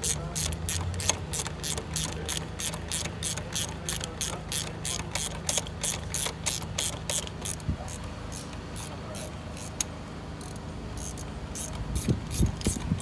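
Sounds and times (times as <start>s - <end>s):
ratchet wrench clicking: 0.0s - 13.0s
steady low hum: 0.0s - 13.0s.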